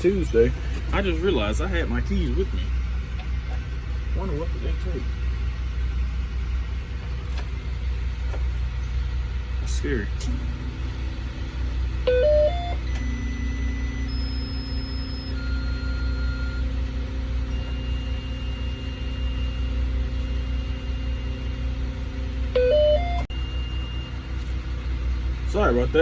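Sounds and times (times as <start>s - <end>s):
bus engine idling: 0.0s - 26.0s.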